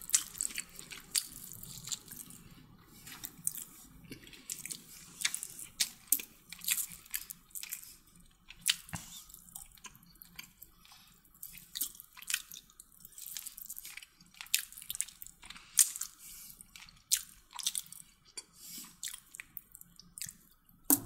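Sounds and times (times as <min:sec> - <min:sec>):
person chewing with crunches: 0:00.0 - 0:20.7.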